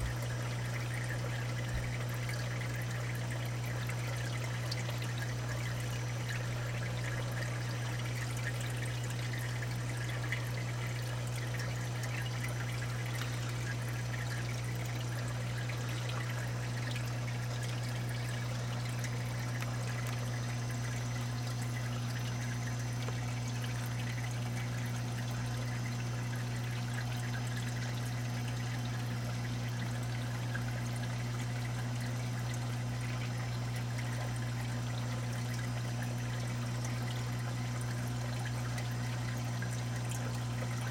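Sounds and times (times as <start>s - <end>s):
steady low hum: 0.0s - 40.9s
water trickling and pouring: 0.0s - 40.9s.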